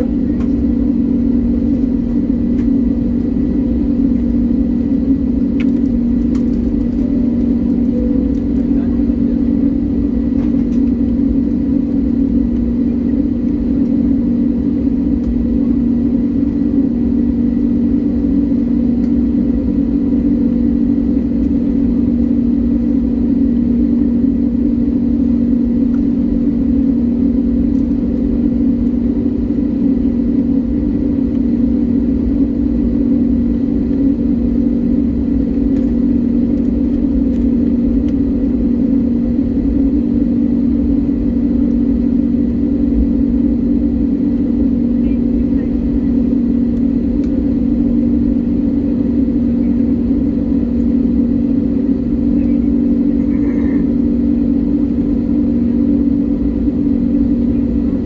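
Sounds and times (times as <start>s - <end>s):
airliner engine drone in cabin: 0.0s - 58.0s.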